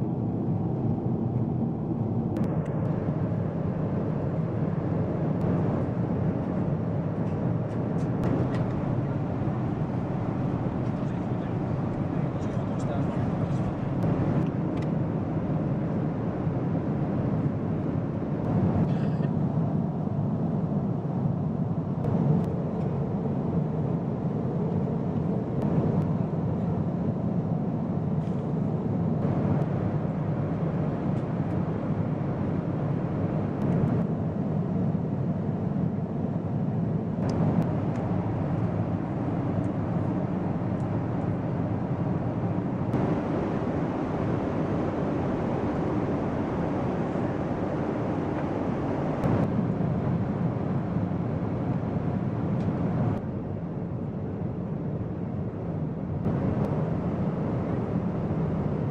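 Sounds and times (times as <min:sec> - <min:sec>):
airplane cabin engine rumble: 0:00.0 - 0:58.9.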